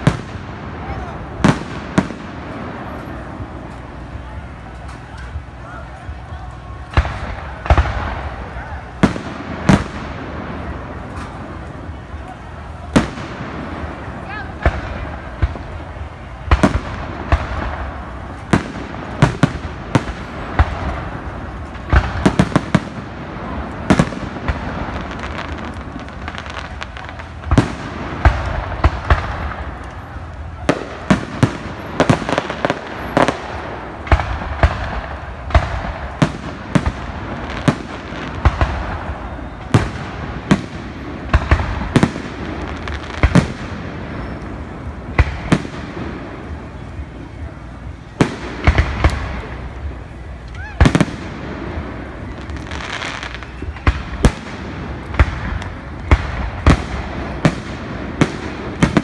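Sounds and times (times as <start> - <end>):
fireworks crackling rumble: 0.0 - 59.0.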